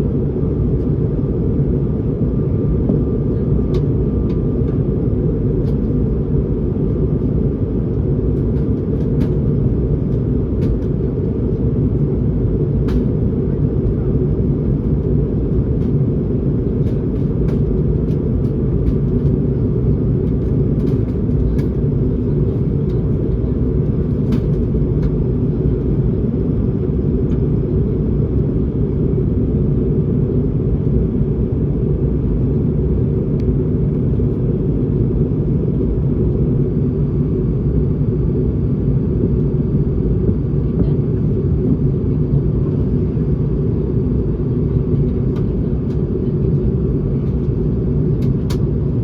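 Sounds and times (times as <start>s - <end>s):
airliner cabin engine rumble: 0.0s - 49.0s.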